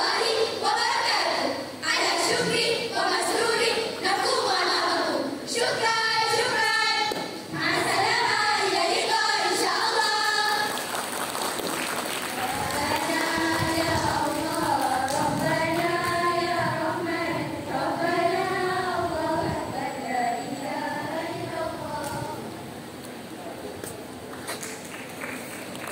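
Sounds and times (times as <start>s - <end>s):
girls singing in unison: 0.0s - 11.2s, 12.2s - 22.7s.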